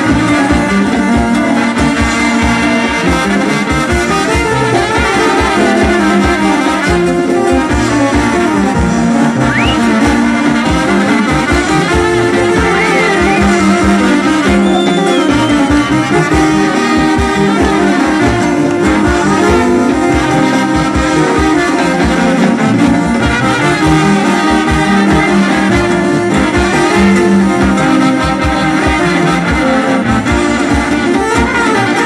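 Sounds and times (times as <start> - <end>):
brass band dance music: 0.0 - 32.0
steady drum beat: 0.0 - 32.0.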